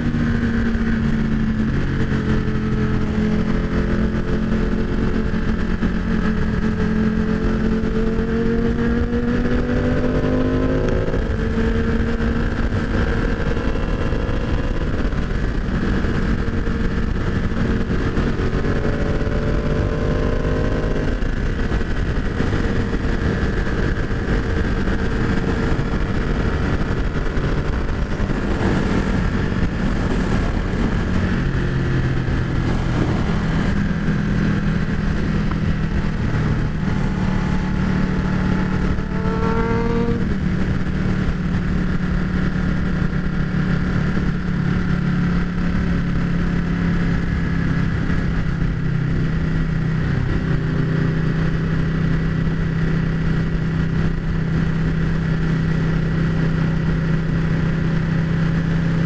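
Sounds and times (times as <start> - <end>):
motorcycle engine revving: 0.0 - 59.0
wind rushing over microphone: 0.0 - 59.0.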